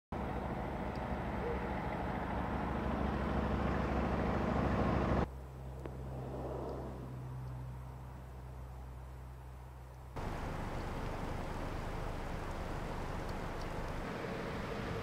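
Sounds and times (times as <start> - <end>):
car approaching on road: 0.2 - 15.0
steady low hum: 2.3 - 15.0.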